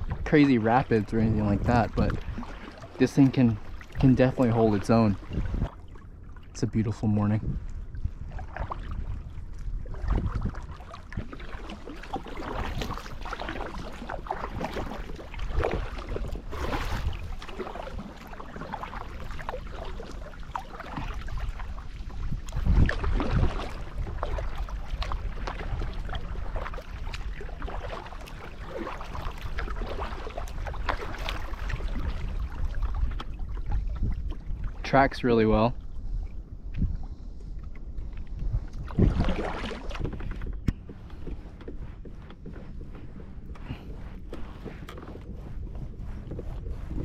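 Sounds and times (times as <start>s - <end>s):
kayak paddle splashing in water: 0.0s - 6.5s, 7.7s - 34.9s, 36.8s - 47.0s
wind rumbling on microphone: 0.0s - 47.0s.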